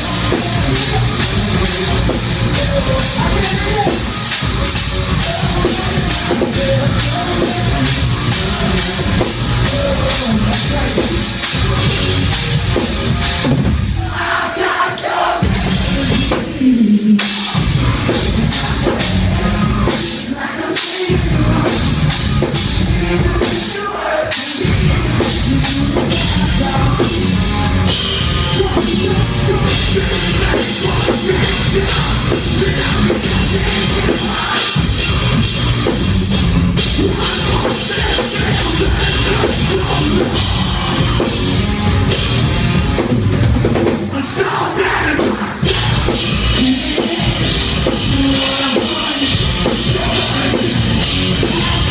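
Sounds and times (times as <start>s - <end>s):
live metal band playing: 0.0s - 51.9s.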